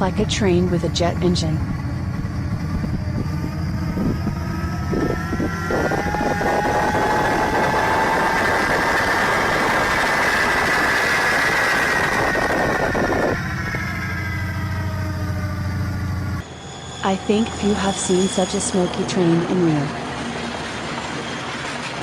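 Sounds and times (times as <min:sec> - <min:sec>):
high turbine whine: 0:00.0 - 0:22.0
jet engine roaring: 0:00.0 - 0:22.0.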